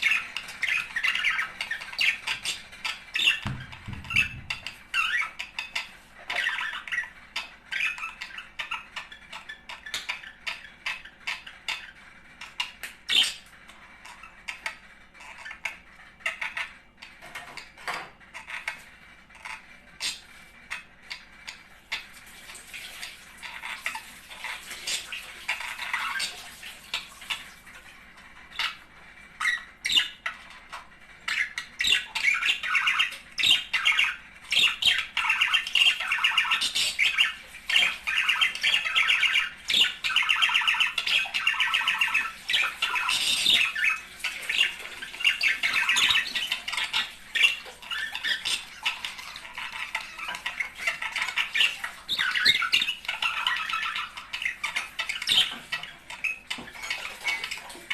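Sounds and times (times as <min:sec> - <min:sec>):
budgerigars chattering and warbling: 0:00.0 - 0:57.9.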